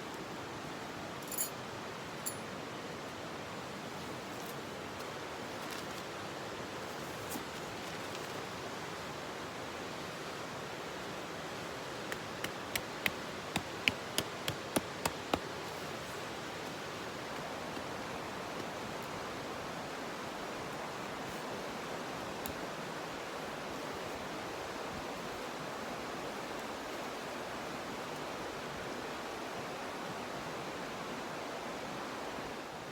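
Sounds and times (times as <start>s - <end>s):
rushing outdoor noise: 0.0s - 32.9s.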